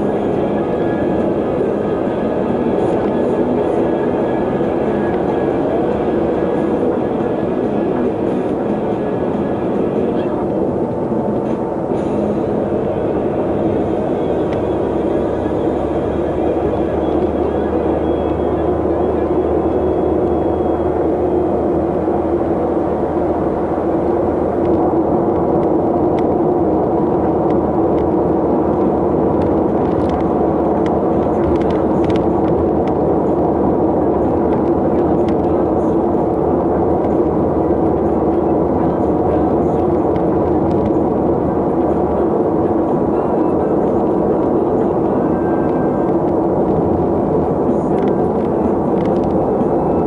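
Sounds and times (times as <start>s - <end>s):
vehicle engine and road drone: 0.0s - 50.0s.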